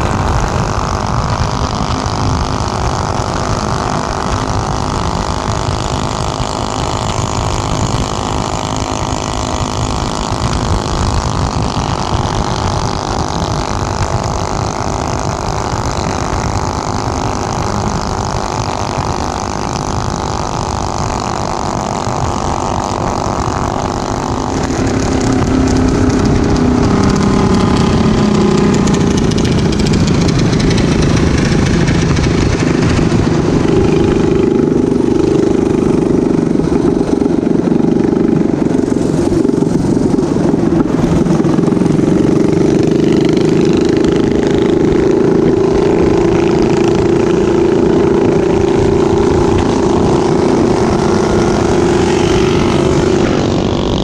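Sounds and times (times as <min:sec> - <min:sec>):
motorcycle engines running: 0:00.0 - 0:54.0
wind rush over microphone: 0:00.0 - 0:54.0.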